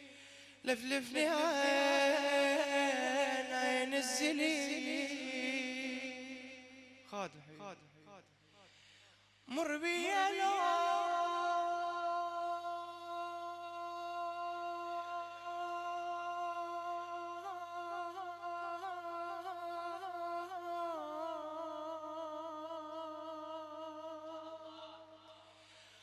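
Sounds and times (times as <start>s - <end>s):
man singing long wordless note: 0.0s - 7.3s, 9.5s - 25.3s.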